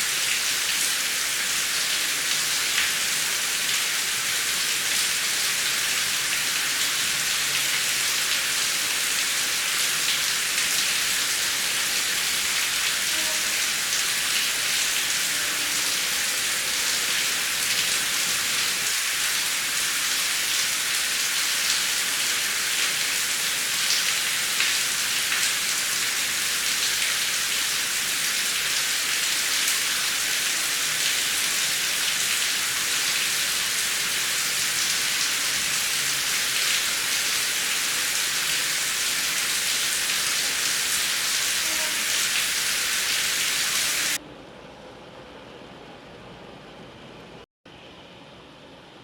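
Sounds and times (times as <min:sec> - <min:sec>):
heavy rain hissing: 0:00.0 - 0:44.2.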